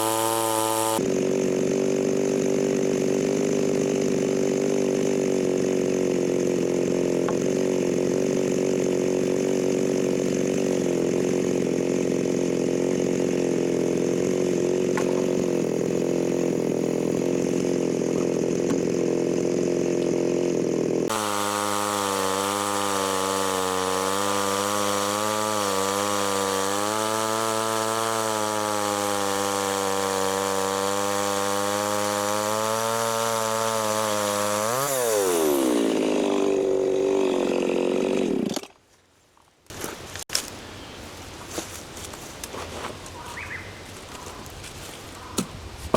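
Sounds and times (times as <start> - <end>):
chainsaw engine running: 0.0 - 38.7.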